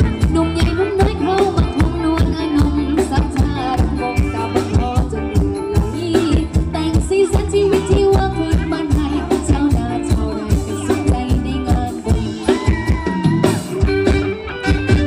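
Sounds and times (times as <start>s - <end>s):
live band playing dance music: 0.0s - 15.0s
steady drum beat: 0.0s - 15.0s.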